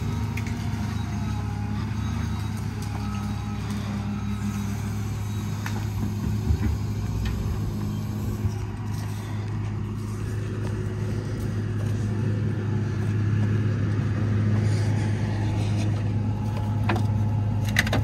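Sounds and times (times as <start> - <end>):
heavy machinery engine running: 0.0 - 18.0.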